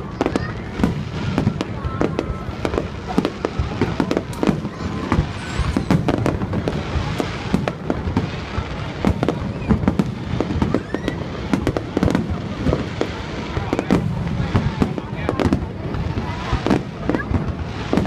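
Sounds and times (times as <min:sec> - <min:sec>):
firework shells bursting: 0:00.3 - 0:18.0.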